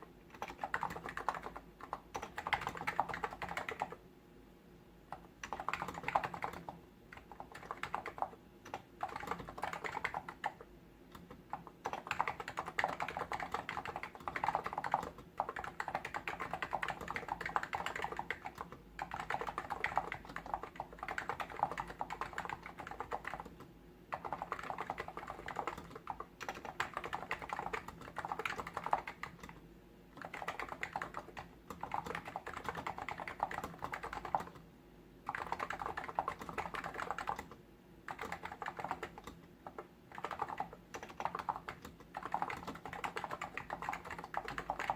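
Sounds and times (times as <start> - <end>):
keyboard typing: 0.3 - 4.0, 5.1 - 34.6, 35.2 - 44.9.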